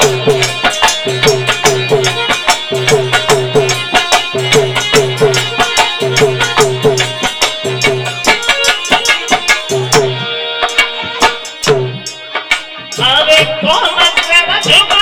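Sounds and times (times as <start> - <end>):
hand drums playing fast rhythm: 0.0 - 15.0.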